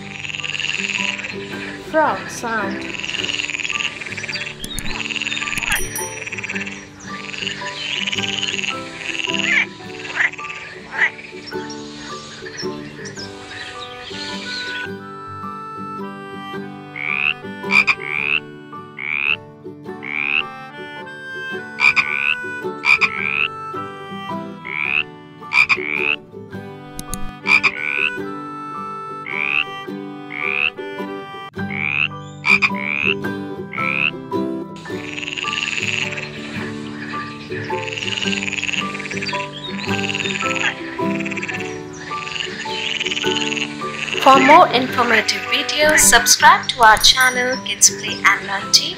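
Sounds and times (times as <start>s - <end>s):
frog croaking: 0.0s - 15.1s, 16.9s - 19.4s, 20.0s - 20.6s, 21.8s - 23.6s, 24.6s - 26.2s, 27.0s - 28.2s, 29.2s - 30.9s, 31.7s - 34.2s, 34.8s - 48.9s
quiet background music: 0.0s - 48.9s.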